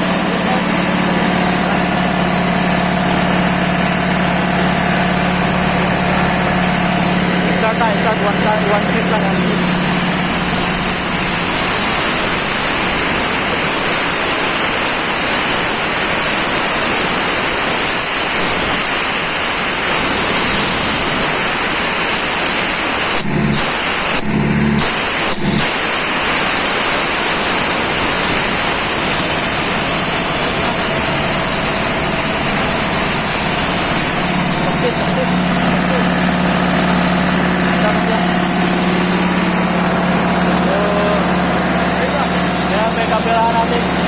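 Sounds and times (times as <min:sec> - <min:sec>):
strong hissing: 0:00.0 - 0:24.2, 0:24.8 - 0:44.0
air compressor running: 0:00.0 - 0:44.0.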